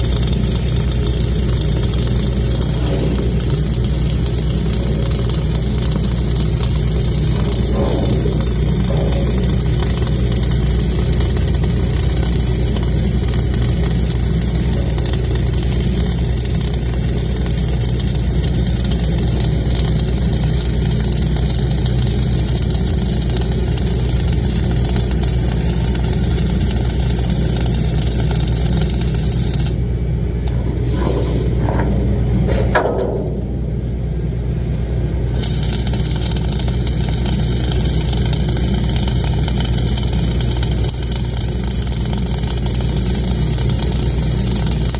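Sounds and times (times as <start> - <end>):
engine running: 0.0 - 20.1, 22.4 - 41.1.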